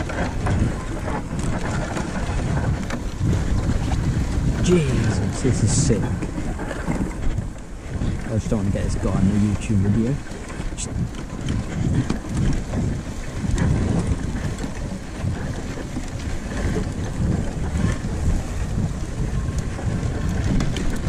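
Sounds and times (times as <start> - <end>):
scooter rumbling over rough grass: 0.0 - 21.0
wind buffeting microphone: 0.0 - 21.0.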